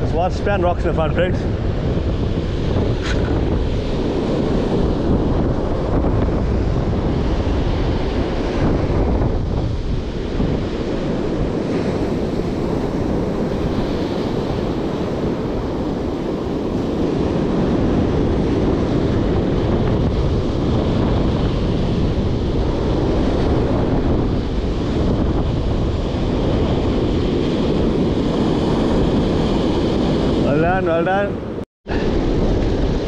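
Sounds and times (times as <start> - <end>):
surf breaking on a beach: 0.0 - 33.0
wind buffeting the microphone: 0.0 - 33.0.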